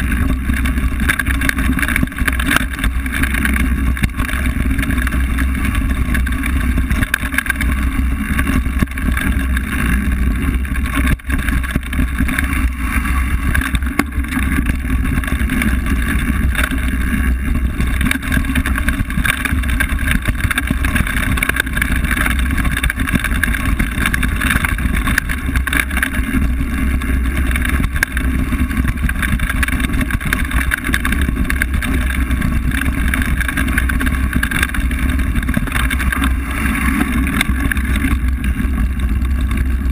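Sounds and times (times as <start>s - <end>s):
bike tyre rumble and rattle: 0.0s - 39.9s.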